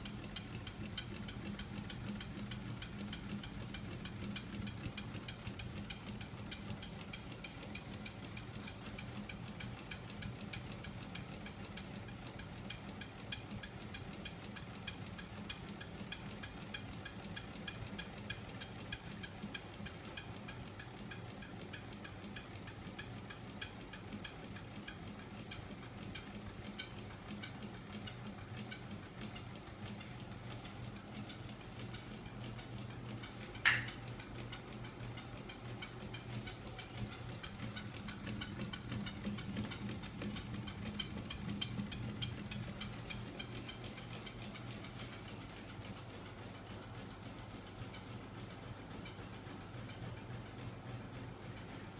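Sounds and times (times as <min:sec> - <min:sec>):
rhythmic clicking of spinning crank: 0:00.0 - 0:51.9.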